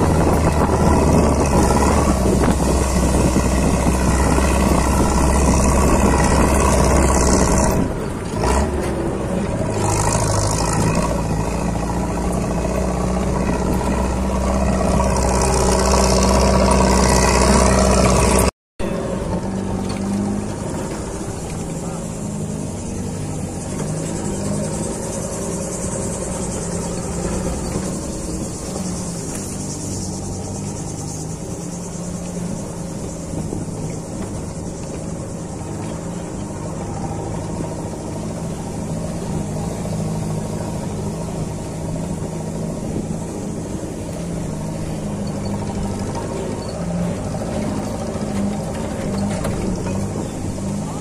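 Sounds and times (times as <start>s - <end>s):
car engine running: 0.0s - 51.0s
tyre noise on dirt road: 0.0s - 51.0s.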